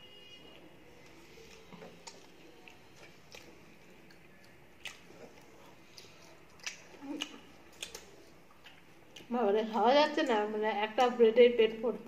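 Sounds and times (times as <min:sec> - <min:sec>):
wet chewing noises: 0:01.0 - 0:11.1.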